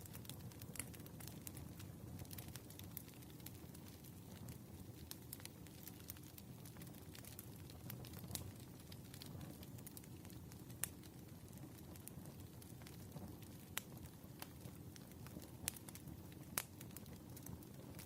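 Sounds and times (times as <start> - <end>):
fire rumbling: 0.0 - 18.0
firewood popping: 0.0 - 18.0.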